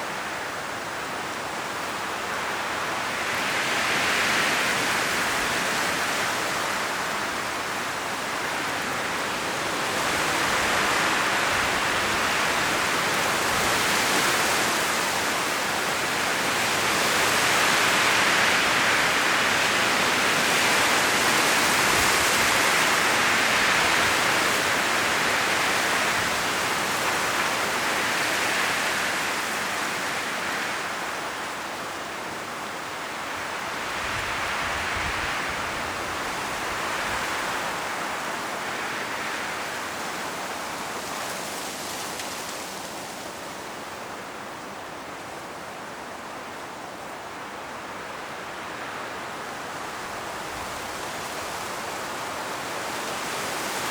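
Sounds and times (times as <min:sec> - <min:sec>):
wind rustling tree leaves: 0:00.0 - 0:53.9.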